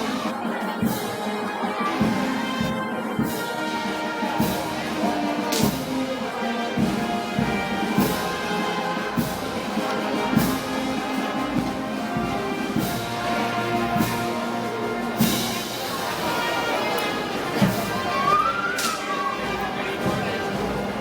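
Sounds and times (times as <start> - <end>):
brass band chords: 0.0 - 21.0
percussion strikes: 0.0 - 21.0.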